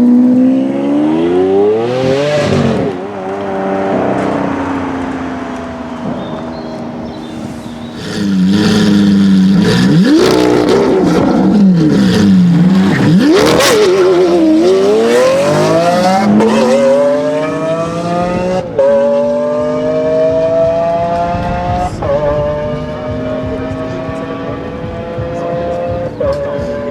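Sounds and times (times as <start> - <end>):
sports car engine revving: 0.0 - 26.9.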